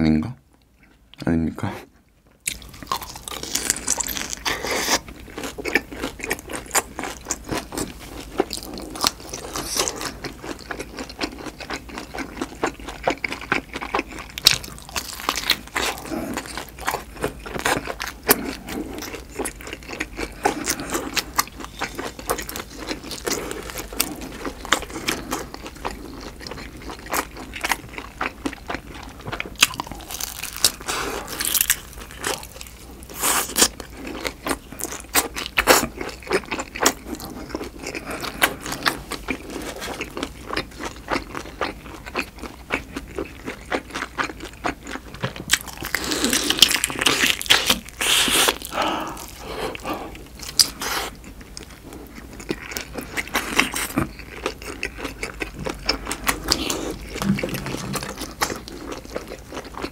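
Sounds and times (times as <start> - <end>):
crunchy chewing: 2.4 - 59.9.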